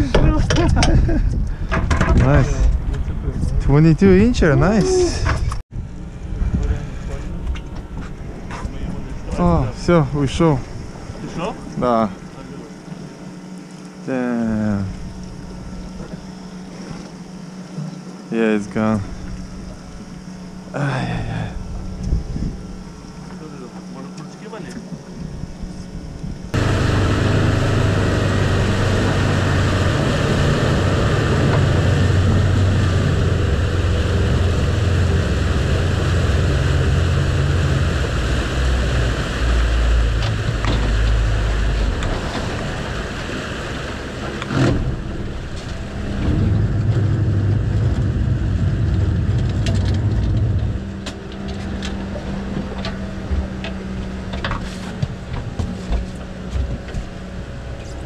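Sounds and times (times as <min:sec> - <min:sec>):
outboard motors running: 0:00.0 - 0:58.0
water rushing along hull: 0:00.0 - 0:58.0
wind: 0:00.0 - 0:58.0.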